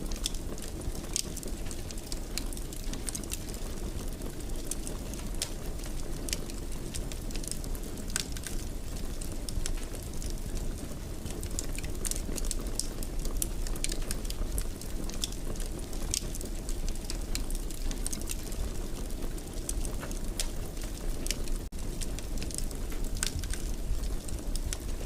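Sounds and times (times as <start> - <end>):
low fire rumble: 0.0 - 25.0
wood fire crackling and popping: 0.0 - 25.0.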